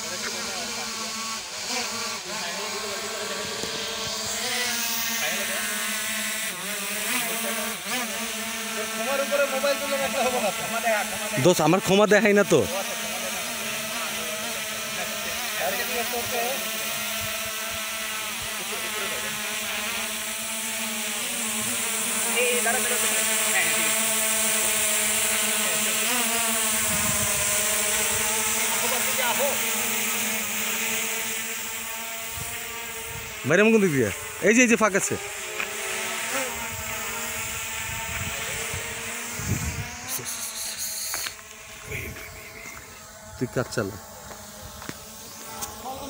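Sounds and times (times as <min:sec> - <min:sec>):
drone propellers buzzing: 0:00.0 - 0:46.0.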